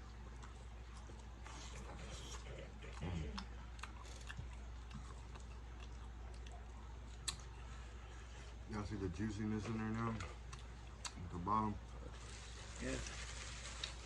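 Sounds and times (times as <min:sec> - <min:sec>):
person chewing fries: 0:00.0 - 0:08.7, 0:09.6 - 0:14.0.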